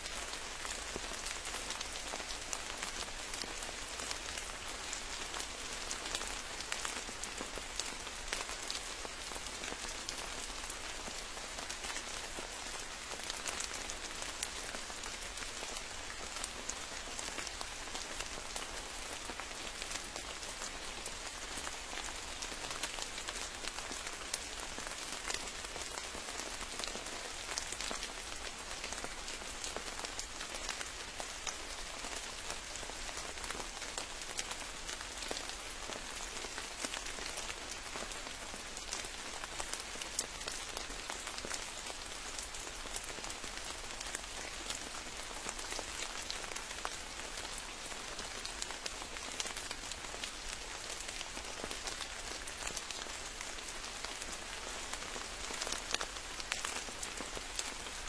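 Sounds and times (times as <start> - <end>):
steady rain in a forest: 0.0 - 58.0
raindrops pattering on a surface: 0.1 - 58.0.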